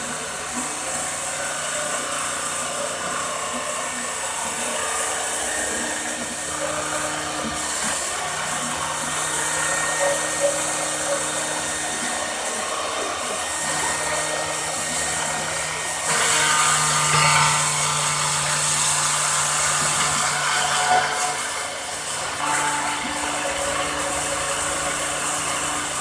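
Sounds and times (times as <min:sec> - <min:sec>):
electric motor whirring: 0:00.0 - 0:26.0.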